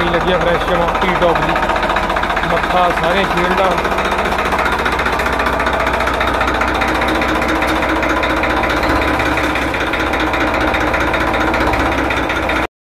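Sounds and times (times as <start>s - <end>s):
tractor diesel engine idling: 0.0s - 12.7s.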